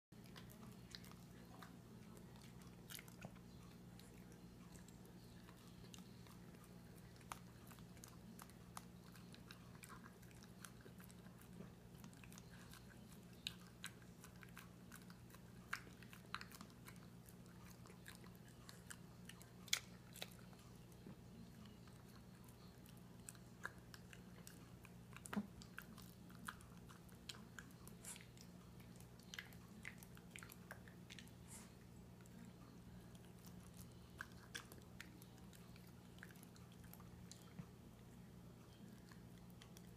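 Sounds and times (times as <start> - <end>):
faint steady hum: 0.1 - 39.9
dog chewing food: 0.2 - 39.9.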